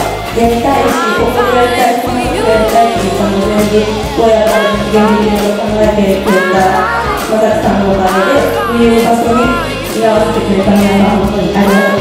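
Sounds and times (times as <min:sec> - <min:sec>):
sustained instrumental accompaniment: 0:00.0 - 0:12.0
woman singing: 0:00.0 - 0:12.0.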